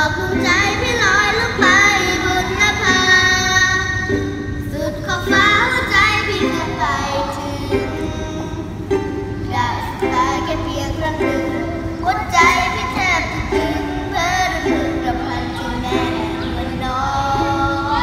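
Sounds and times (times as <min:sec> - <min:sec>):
backing music: 0:00.0 - 0:18.0
child singing: 0:00.0 - 0:18.0.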